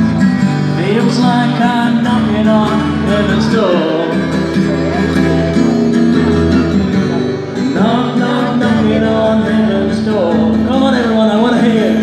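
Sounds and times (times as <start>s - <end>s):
guitar accompaniment: 0.0s - 12.0s
man singing country song: 0.0s - 12.0s.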